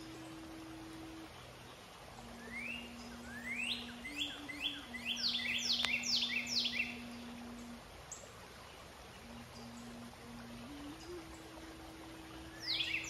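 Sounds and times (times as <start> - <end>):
songbird singing: 0.0 - 13.0
steady low hum: 0.0 - 13.0.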